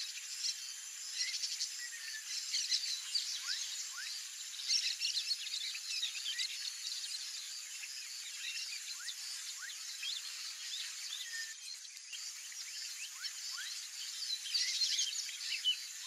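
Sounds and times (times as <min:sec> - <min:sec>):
bird twittering song: 0:00.0 - 0:16.0
steady high hiss: 0:00.0 - 0:16.0.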